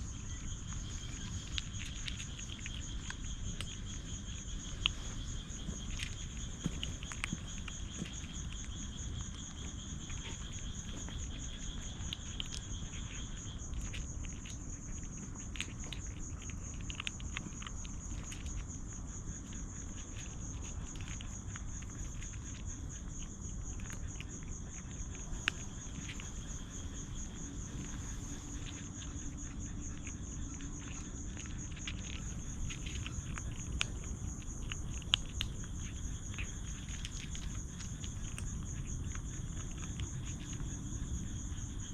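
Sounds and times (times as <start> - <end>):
crickets trilling: 0.0 - 41.9
lower insect trill: 0.0 - 41.9.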